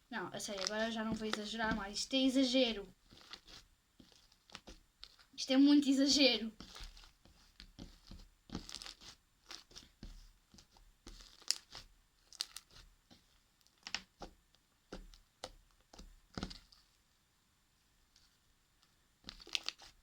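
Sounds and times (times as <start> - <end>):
slime crackling and squishing: 0.1 - 16.9, 19.2 - 20.0.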